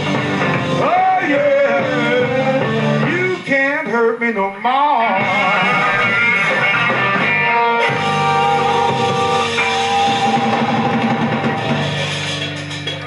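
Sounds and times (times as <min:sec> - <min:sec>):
electric guitar: 0:00.0 - 0:03.5, 0:04.4 - 0:13.0
live rock band playing: 0:00.0 - 0:03.6, 0:04.6 - 0:13.0.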